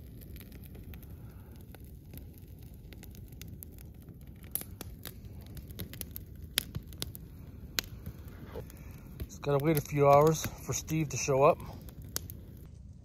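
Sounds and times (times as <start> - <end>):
sharp pops of fire: 0.0 - 12.9
wood fire crackling: 0.0 - 13.0.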